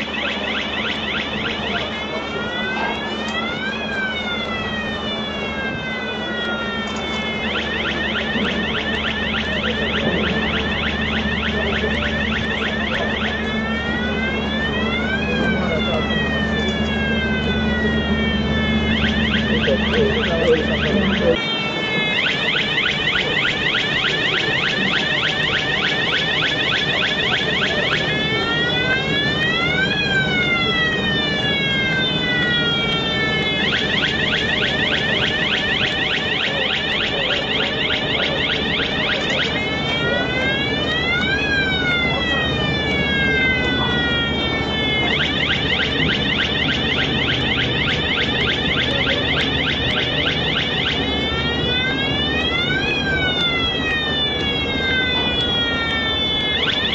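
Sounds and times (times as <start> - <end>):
electronic warning siren: 0.0 - 56.9
low machine hum: 0.0 - 56.9.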